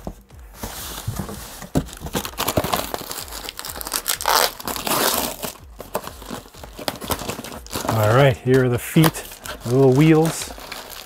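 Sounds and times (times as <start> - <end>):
cardboard rustling: 0.0 - 11.0
plastic packaging crinkling: 0.9 - 11.0.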